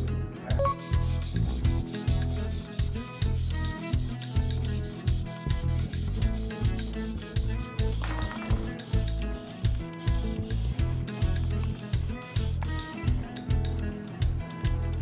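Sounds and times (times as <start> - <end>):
background music: 0.0 - 15.0
blade sharpening on whetstone: 0.6 - 13.1.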